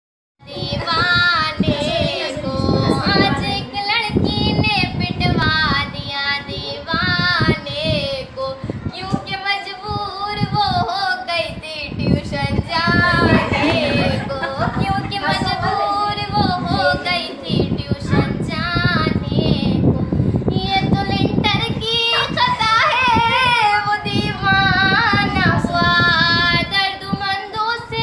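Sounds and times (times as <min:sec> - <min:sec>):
girl singing in a high voice: 0:00.4 - 0:28.0.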